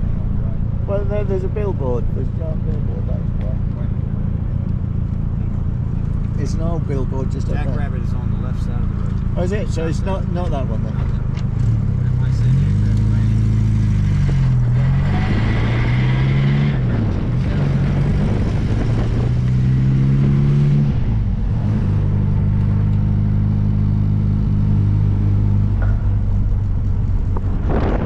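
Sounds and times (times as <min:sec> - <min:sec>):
car engine driving: 0:00.0 - 0:28.0
wind and road noise: 0:00.0 - 0:28.0.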